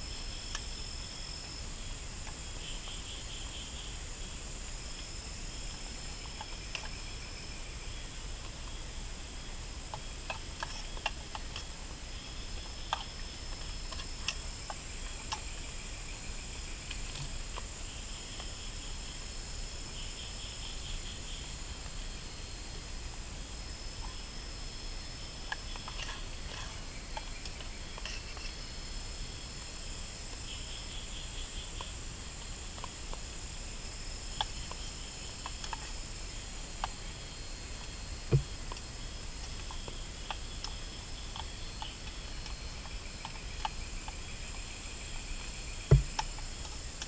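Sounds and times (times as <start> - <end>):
insect trilling: 0.0 - 47.0
insect whine: 0.0 - 47.0
insects buzzing: 0.0 - 47.0.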